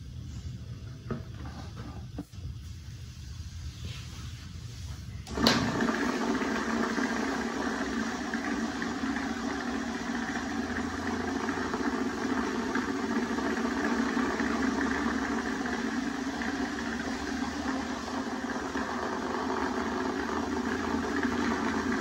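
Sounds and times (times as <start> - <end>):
electric fan whirring: 0.0 - 22.0.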